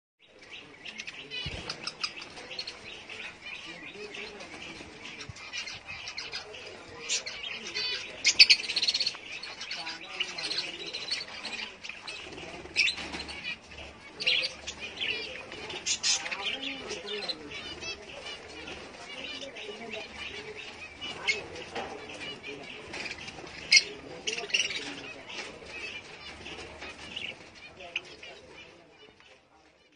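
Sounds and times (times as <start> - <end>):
small birds chirping: 0.2 - 29.9.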